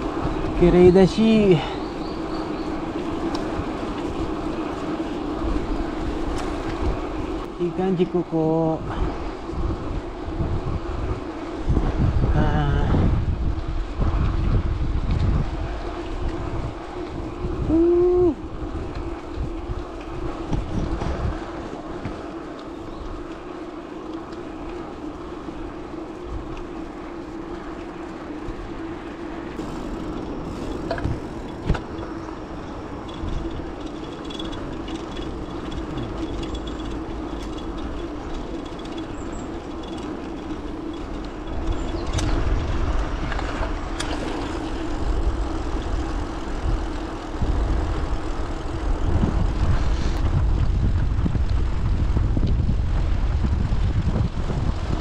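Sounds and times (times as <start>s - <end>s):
bicycle tyres on tarmac: 0.0s - 55.0s
bike rattling: 0.0s - 55.0s
wind buffeting microphone: 0.0s - 55.0s.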